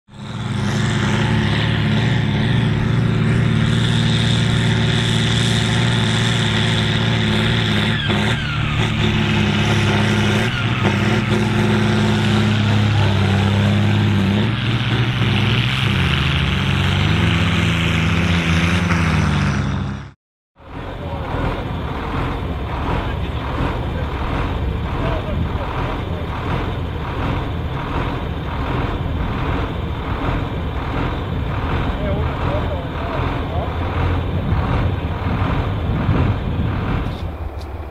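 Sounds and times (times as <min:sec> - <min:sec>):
tractor diesel engine under load: 0:00.1 - 0:37.9.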